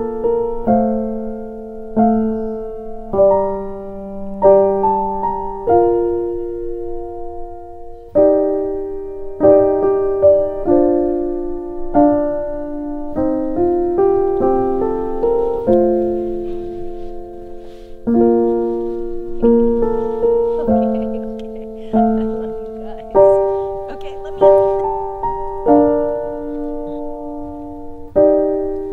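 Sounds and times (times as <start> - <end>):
slow solo piano music: 0.0 - 28.9.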